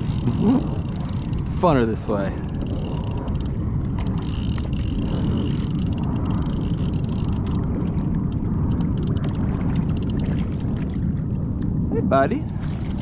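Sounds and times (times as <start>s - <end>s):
water washing around hull: 0.0s - 13.0s
wind buffeting microphone: 0.0s - 13.0s.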